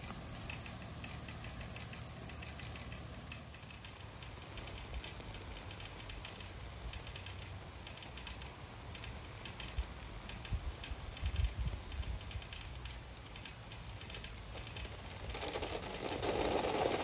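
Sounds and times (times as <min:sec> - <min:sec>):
sprinkler water jets hissing: 0:00.0 - 0:17.0.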